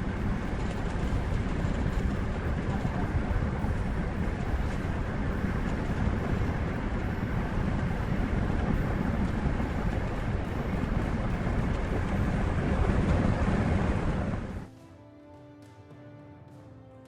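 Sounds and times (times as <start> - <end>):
heavy vehicle rumbling: 0.0 - 14.7
wind noise on microphone: 0.0 - 14.7.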